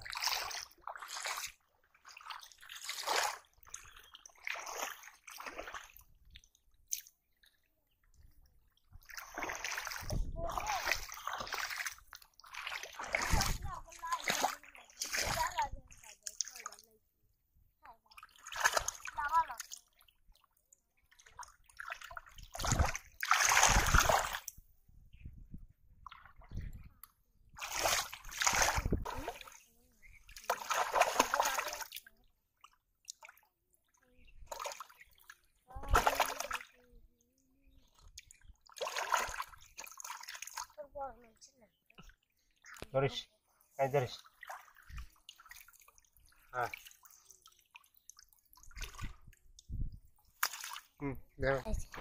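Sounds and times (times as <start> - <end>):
river water splashing: 0.0 - 7.5, 8.8 - 16.9, 18.0 - 24.6, 27.5 - 36.9, 37.7 - 43.2, 43.8 - 49.6, 50.2 - 51.0.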